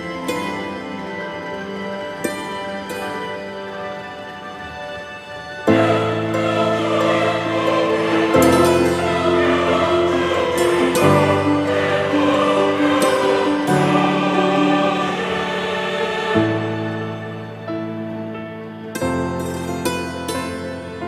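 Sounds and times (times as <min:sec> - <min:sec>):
choral singing sustained chords: 0:00.0 - 0:21.0.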